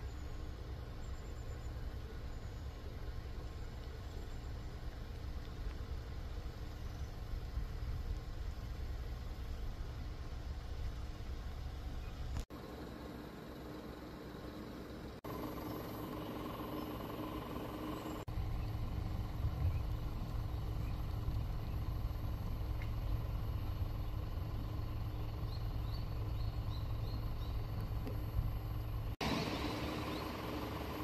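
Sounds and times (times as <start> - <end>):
low outdoor background rumble: 0.0 - 31.0.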